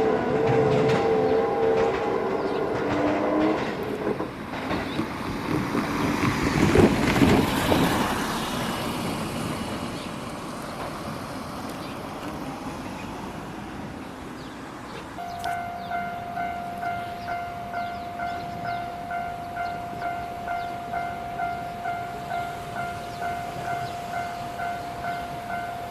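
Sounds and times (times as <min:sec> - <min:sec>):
train passing: 0:00.0 - 0:25.9.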